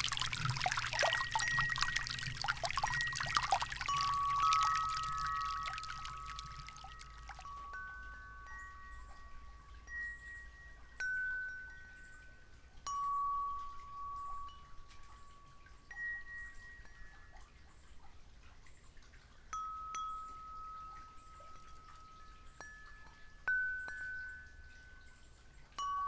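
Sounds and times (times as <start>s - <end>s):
wind chimes ringing: 0.0s - 17.6s, 19.4s - 26.0s.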